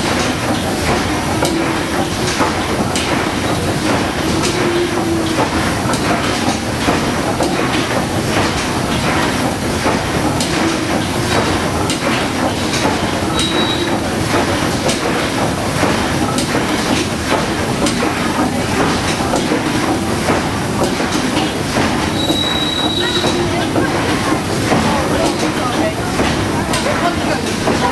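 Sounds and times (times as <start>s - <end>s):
steam engine clattering: 0.0s - 27.9s.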